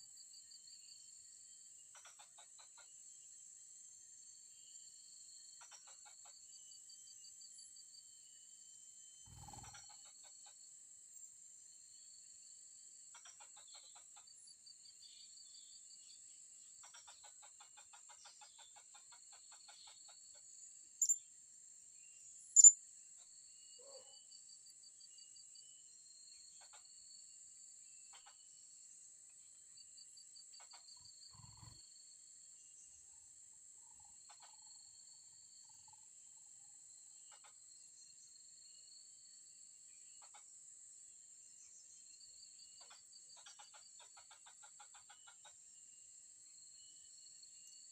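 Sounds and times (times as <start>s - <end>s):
pulsing cricket trills: 0.0s - 18.6s, 19.8s - 47.9s.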